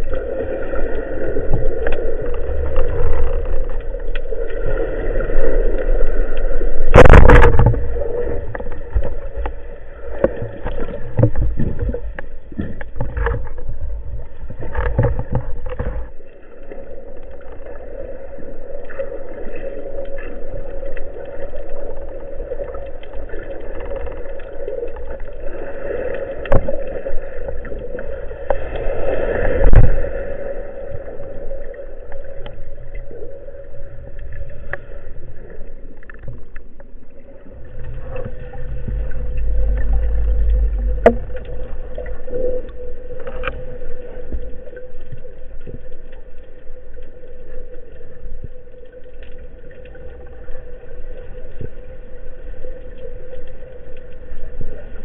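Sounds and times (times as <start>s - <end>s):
underwater hum and rumble: 0.0s - 55.0s.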